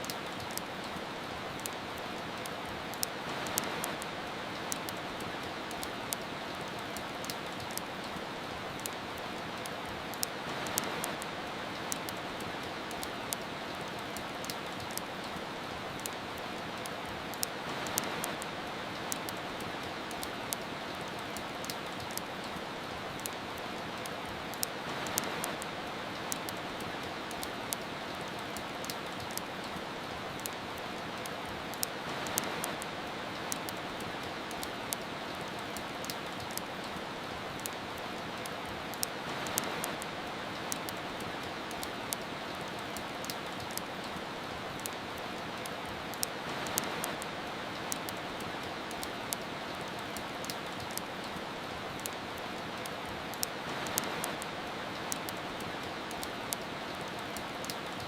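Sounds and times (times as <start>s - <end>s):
soft rain: 0.0s - 58.0s
wood fire crackling: 0.0s - 58.0s.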